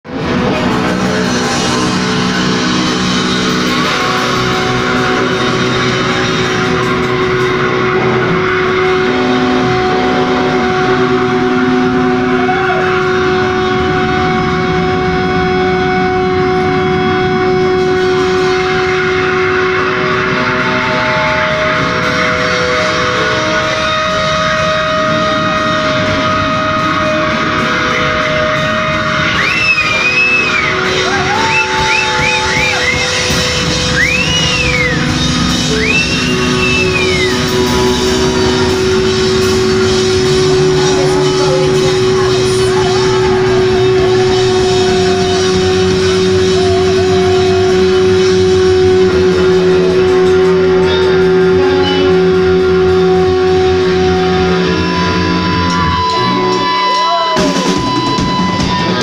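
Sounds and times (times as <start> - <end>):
drums: 0.0 - 59.0
electric guitar: 0.0 - 59.0.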